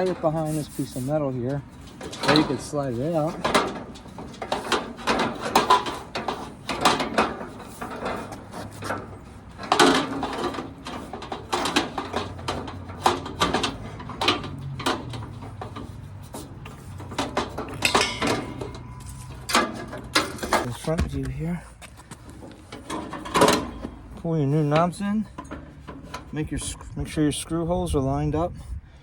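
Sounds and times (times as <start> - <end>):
metal grill parts clanking: 0.0 - 27.9.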